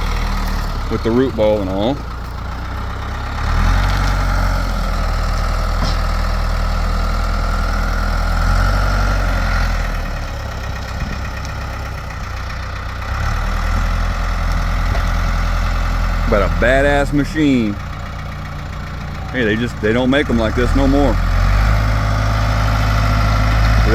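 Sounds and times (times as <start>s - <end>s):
diesel engine working under load: 0.0s - 23.9s.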